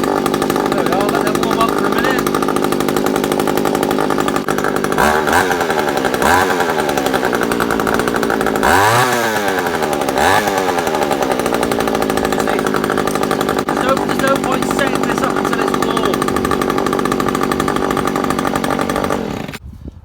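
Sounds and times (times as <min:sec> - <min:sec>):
strimmer engine revving: 0:00.0 - 0:19.6.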